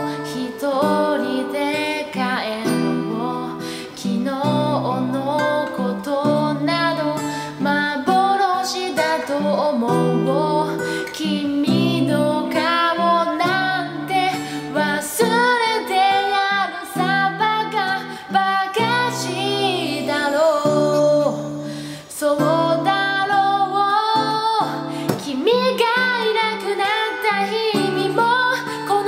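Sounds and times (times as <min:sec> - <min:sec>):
acoustic guitar: 0:00.0 - 0:29.0
person singing pop ballad: 0:00.0 - 0:29.0.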